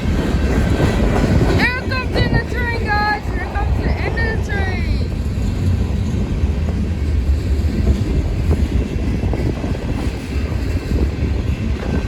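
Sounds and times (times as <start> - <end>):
freight cars rumbling on rails: 0.0 - 12.0
wind buffeting microphone: 0.0 - 12.0.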